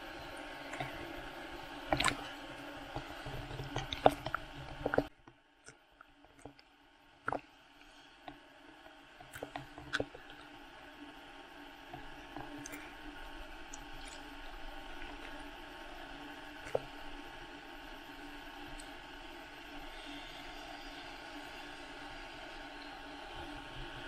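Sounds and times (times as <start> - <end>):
muffled water sloshing and lapping: 0.0 - 24.0.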